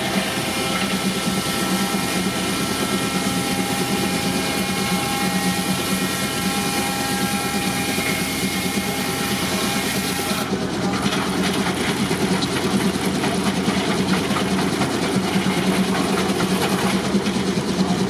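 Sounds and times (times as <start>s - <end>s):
steam tractor driving sawmill: 0.0s - 18.0s.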